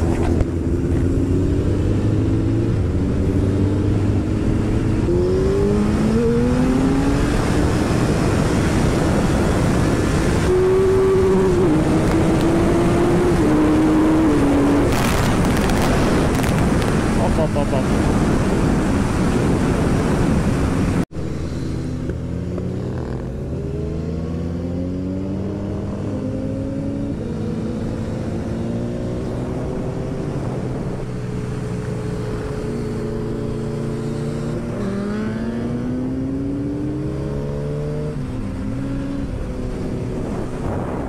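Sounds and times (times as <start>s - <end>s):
loud wind rush: 0.0s - 41.0s
motorcycle engine accelerating: 0.0s - 41.0s.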